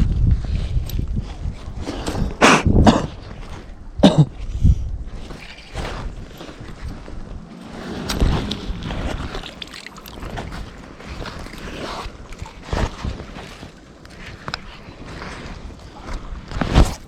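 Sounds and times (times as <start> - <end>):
handling knocks and rustles: 0.0 - 17.0
wind buffeting microphone: 0.0 - 17.0.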